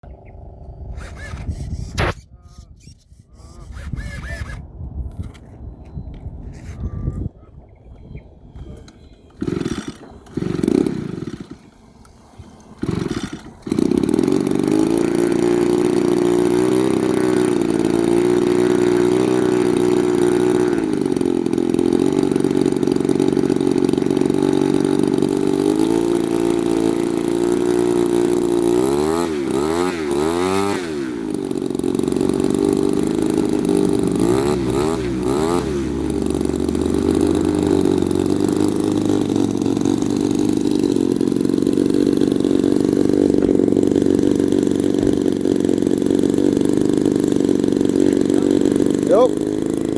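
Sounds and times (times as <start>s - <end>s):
small engine running: 0.1s - 5.5s, 7.9s - 49.9s.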